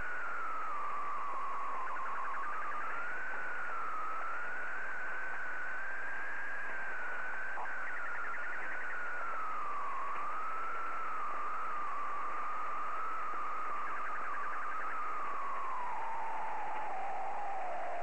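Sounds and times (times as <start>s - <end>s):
warbling whistle-like radio tone: 0.0s - 18.0s.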